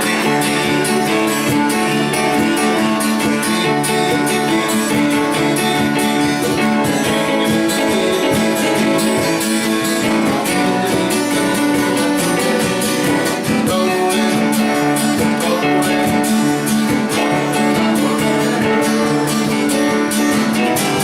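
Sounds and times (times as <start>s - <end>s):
band playing live: 0.0s - 21.0s
strummed guitars: 0.0s - 21.0s.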